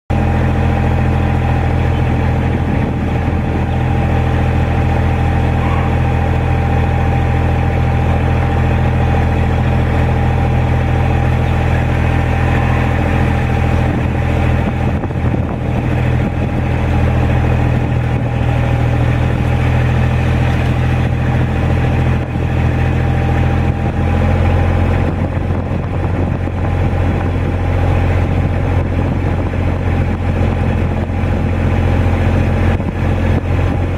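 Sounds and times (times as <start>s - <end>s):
engine running steadily: 0.1s - 33.9s.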